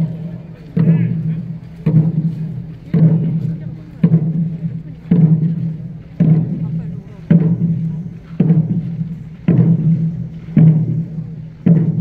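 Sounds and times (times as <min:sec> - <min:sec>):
large drum beaten in march beat: 0:00.0 - 0:12.0.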